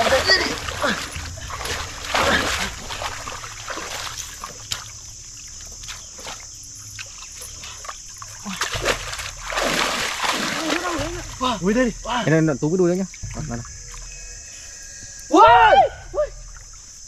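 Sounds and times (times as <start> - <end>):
water drips: 0.0 - 17.0
water splashing and sloshing: 0.0 - 17.0.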